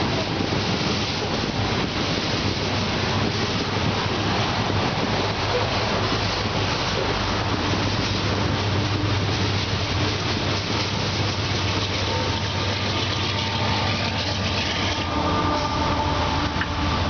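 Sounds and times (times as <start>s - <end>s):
locomotive engine hum: 0.0s - 17.0s
train wheels on rails: 0.0s - 17.0s.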